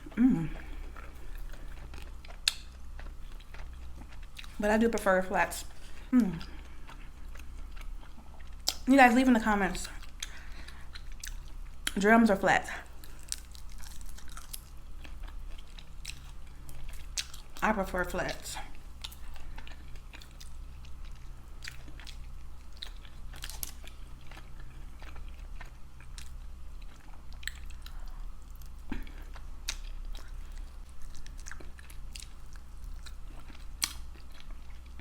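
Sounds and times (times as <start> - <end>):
chewing and biting crunches: 0.0 - 8.9, 9.6 - 12.0, 12.7 - 17.6, 18.2 - 35.0
steady low hum: 0.0 - 35.0.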